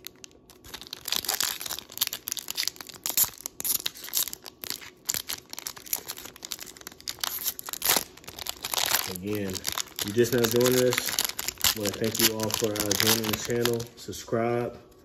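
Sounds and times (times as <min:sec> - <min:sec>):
foil wrapper crinkling and ripping: 0:00.0 - 0:14.0.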